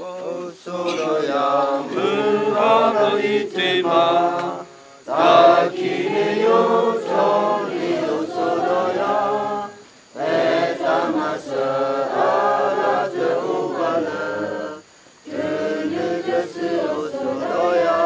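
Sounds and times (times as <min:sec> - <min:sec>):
group singing a hymn unaccompanied: 0:00.0 - 0:18.0.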